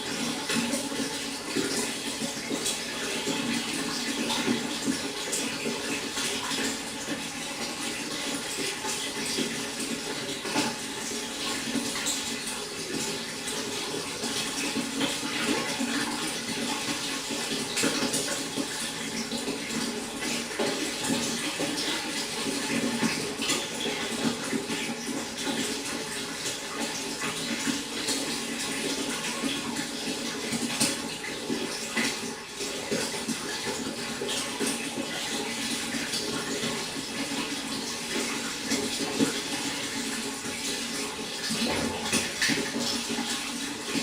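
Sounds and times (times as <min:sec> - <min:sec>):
water trickling and splashing: 0:00.0 - 0:44.0.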